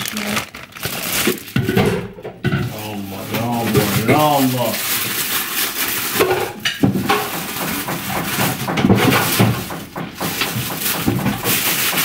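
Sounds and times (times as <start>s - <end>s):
items knocking and clattering: 0.0s - 12.0s
plastic bags rustling: 0.0s - 12.0s.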